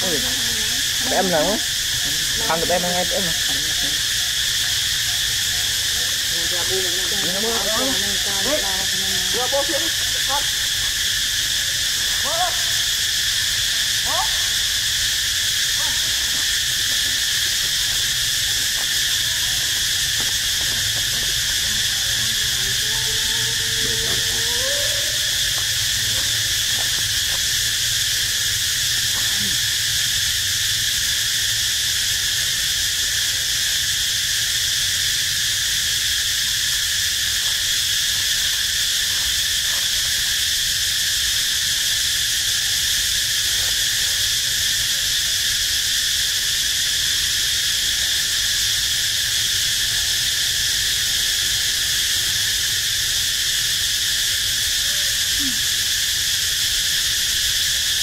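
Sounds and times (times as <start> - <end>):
insects chorus: 0.0 - 58.0.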